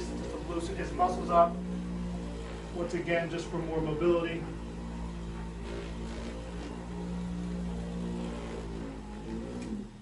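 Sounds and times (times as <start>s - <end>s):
electric massager motor hum: 0.0s - 10.0s.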